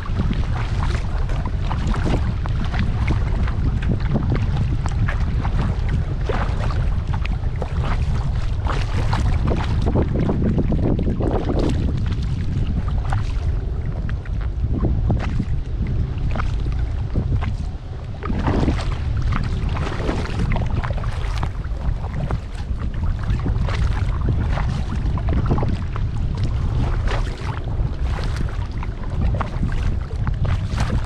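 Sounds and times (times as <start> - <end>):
kayak paddle splashing in water: 0.0 - 31.0
water dripping and lapping: 0.0 - 31.0
wind rumble on microphone: 0.0 - 31.0.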